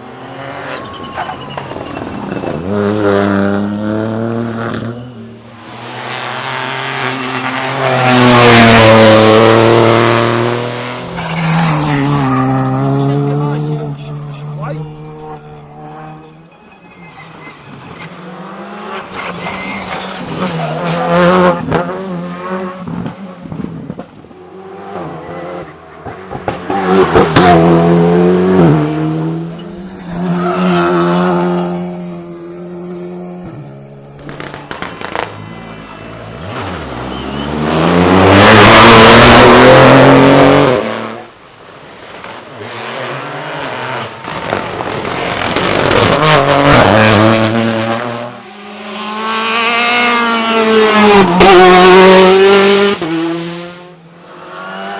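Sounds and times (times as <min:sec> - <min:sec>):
rally car engines revving: 0:00.0 - 0:54.9.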